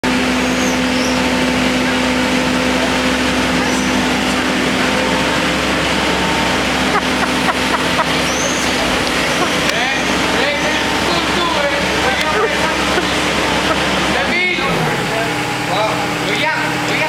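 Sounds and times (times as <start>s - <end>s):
excavator engine running: 0.0s - 17.0s
machine hum: 0.0s - 17.0s.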